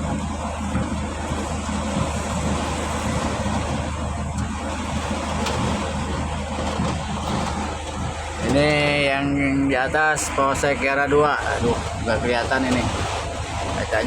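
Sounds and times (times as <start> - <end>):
engine idling hum: 0.0 - 14.0
heavy rain on vehicle: 0.0 - 14.0.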